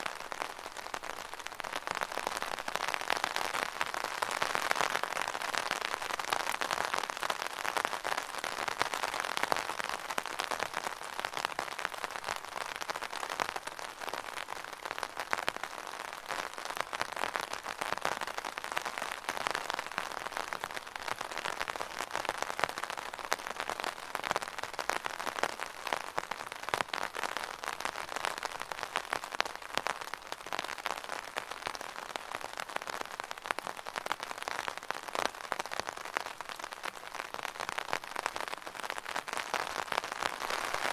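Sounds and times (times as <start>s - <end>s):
rain pattering on an umbrella: 0.0s - 40.9s.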